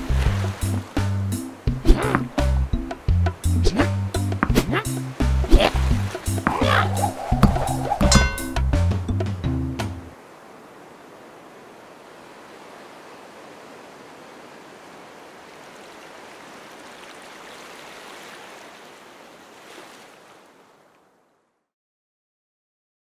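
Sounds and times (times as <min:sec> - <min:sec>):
rushing outdoor ambience: 0:00.0 - 0:19.9.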